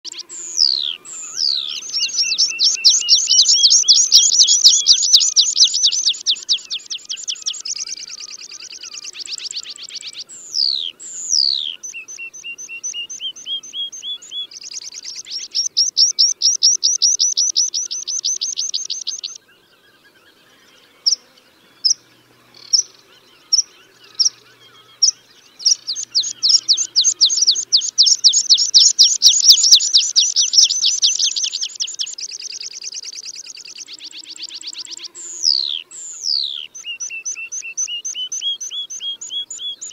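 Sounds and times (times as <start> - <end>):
bird song whistles and trills: 0.1 - 39.9.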